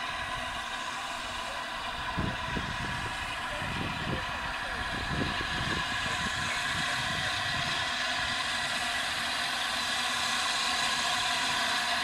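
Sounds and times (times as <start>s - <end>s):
low rumble of locomotive: 0.0s - 12.0s
steam locomotive hissing: 0.0s - 12.0s.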